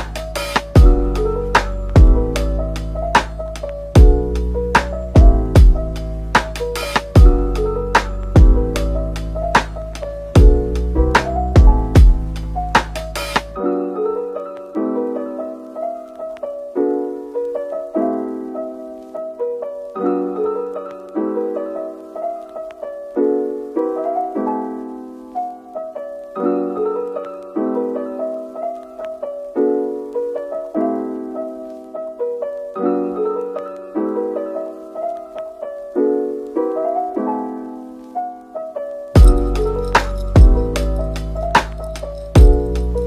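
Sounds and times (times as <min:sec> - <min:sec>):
gentle piano music: 0:00.0 - 0:43.0.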